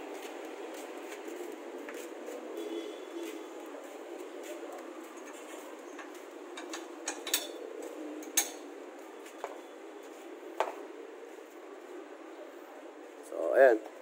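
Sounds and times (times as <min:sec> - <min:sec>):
faint background noise: 0:00.0 - 0:14.0.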